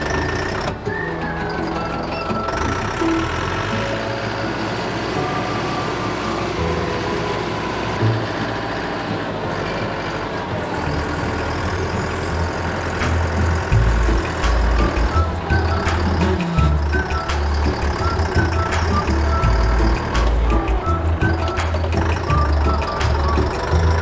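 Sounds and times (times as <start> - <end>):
heavy engine rumbling: 0.0 - 24.0.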